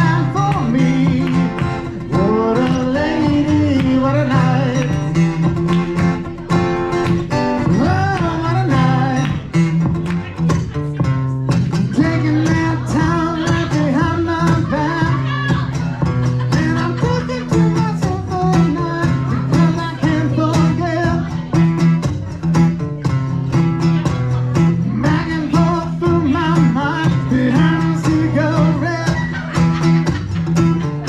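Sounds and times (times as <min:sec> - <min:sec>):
live band instrumental music: 0:00.0 - 0:31.0.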